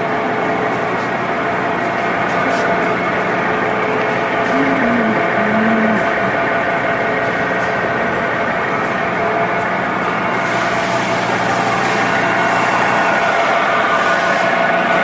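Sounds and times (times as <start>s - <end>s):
mixer machine humming and whining: 0.0s - 15.0s.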